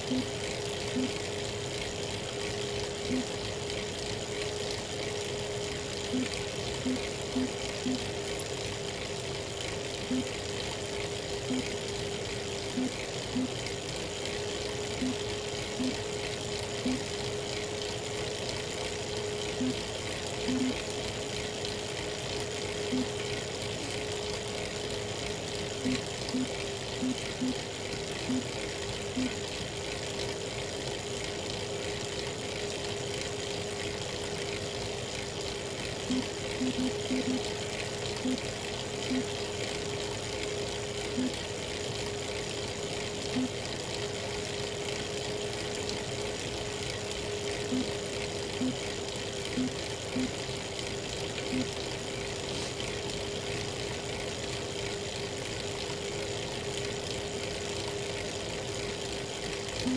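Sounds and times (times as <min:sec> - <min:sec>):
bike trainer whine: 0:00.0 - 0:59.9.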